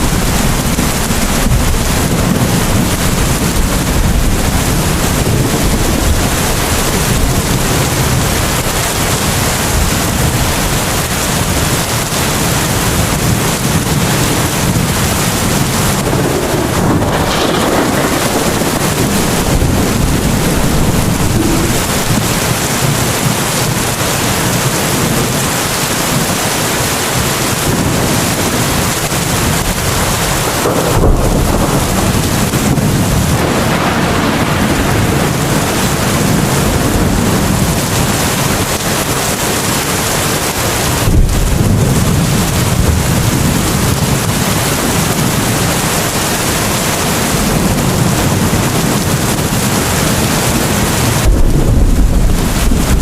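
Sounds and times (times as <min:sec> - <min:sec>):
heavy rain: 0:00.0 - 0:53.0
thunder rumbling: 0:00.0 - 0:53.0.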